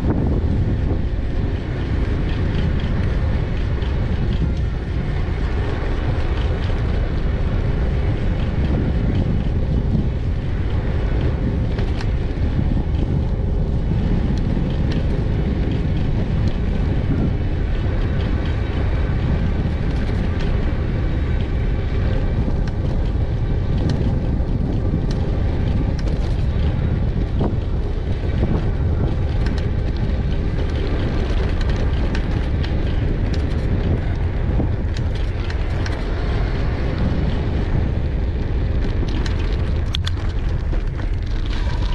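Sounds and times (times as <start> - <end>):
small clicks and rattles: 0.0 - 41.9
wind rumbling on microphone: 0.0 - 41.9.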